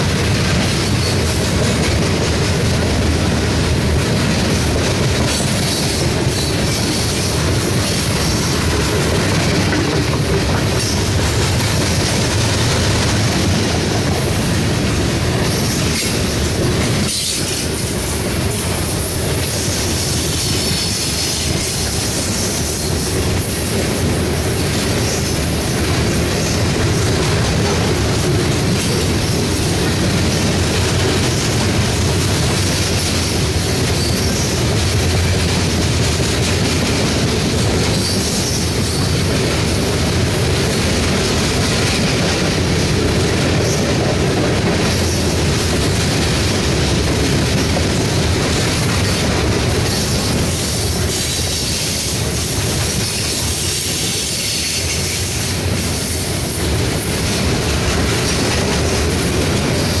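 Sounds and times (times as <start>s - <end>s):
train wheels rumbling on rails: 0.0s - 60.0s.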